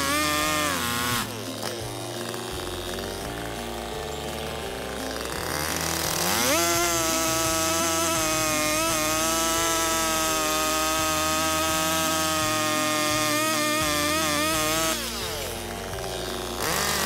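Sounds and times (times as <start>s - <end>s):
chainsaw cutting log: 0.0s - 17.0s.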